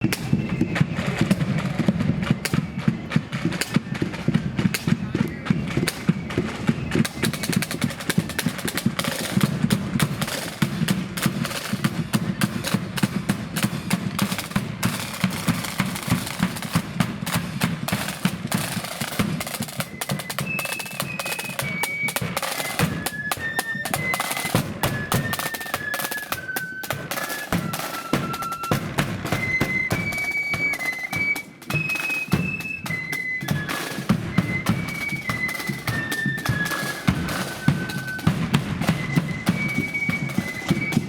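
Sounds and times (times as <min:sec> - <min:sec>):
flute melody: 0:00.0 - 0:41.0
snare and bass drums: 0:00.0 - 0:41.0.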